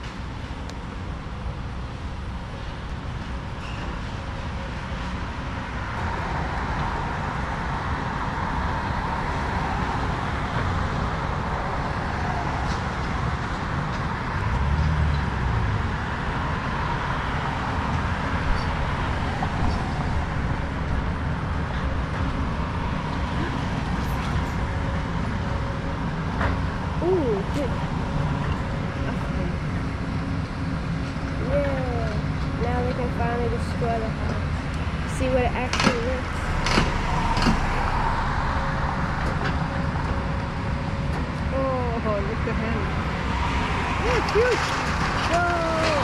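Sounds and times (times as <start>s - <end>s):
excavator diesel engine rumbling: 0.0s - 46.0s.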